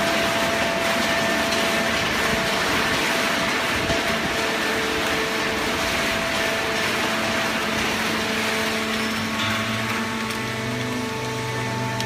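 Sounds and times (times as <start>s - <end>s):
baling machine running: 0.0s - 12.0s
deeper machine hum: 0.0s - 12.0s.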